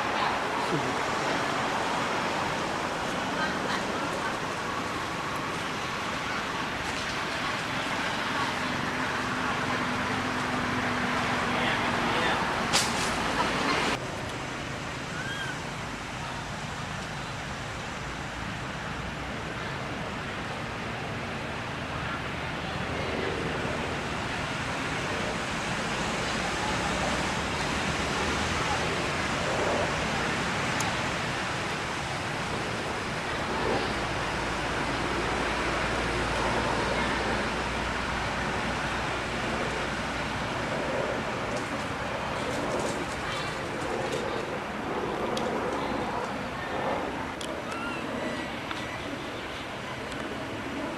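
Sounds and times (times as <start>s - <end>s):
steady outdoor hiss: 0.0s - 50.9s
steady rushing noise: 0.0s - 50.9s.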